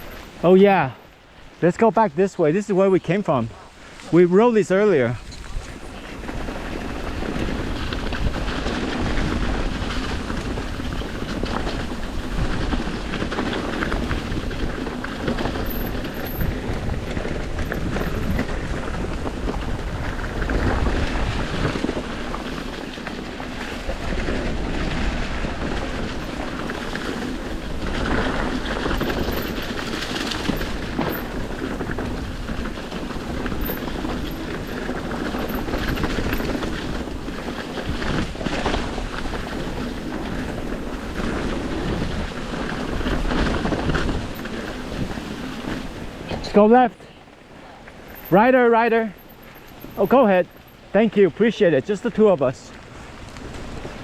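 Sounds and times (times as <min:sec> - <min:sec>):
bike rattling and clattering: 0:00.0 - 0:01.0, 0:04.0 - 0:54.0
wind rumbling on microphone: 0:00.0 - 0:54.0
tyres rolling over dirt and rocks: 0:04.0 - 0:54.0.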